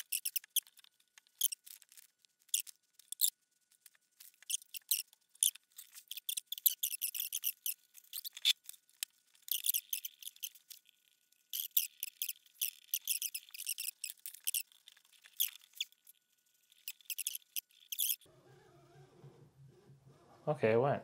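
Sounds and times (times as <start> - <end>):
plastic wheels squeaking on rails: 0.0 - 3.3, 4.2 - 10.9, 11.5 - 20.4.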